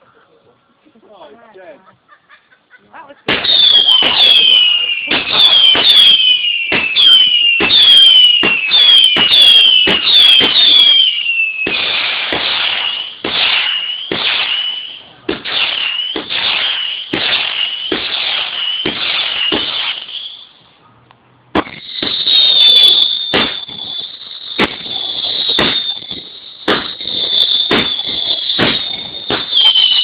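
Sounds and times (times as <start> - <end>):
whistling firework shots: 3.3 - 20.7, 21.6 - 30.0.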